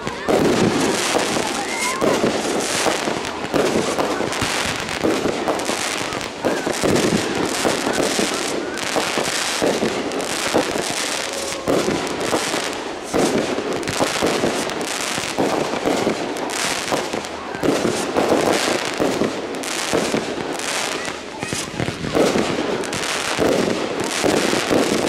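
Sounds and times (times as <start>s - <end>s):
firework crackling: 0.0s - 25.0s
firework launches and bursts: 0.0s - 25.0s.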